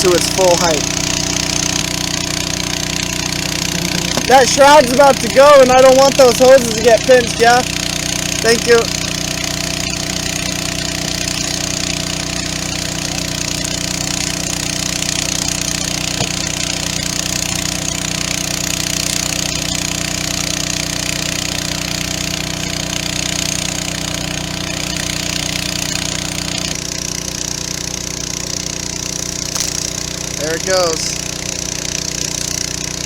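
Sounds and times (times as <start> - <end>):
water pump engine running: 0.0 - 33.0.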